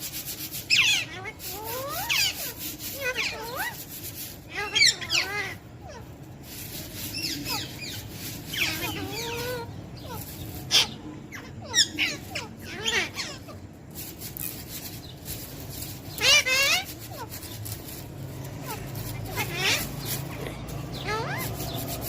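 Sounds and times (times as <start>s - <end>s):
parrot pitch-gliding calls: 0.3s - 22.0s.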